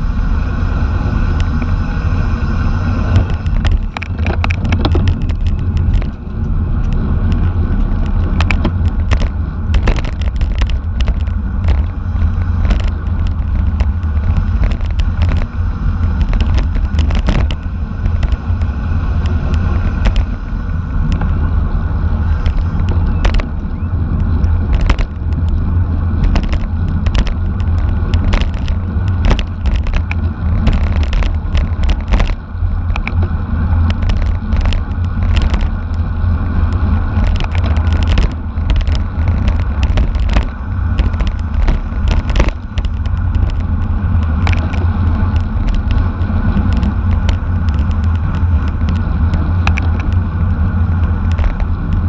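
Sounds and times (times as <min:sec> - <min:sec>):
wind rumble on microphone: 0:00.0 - 0:52.0
bicycle clicks and rattles: 0:03.1 - 0:52.0.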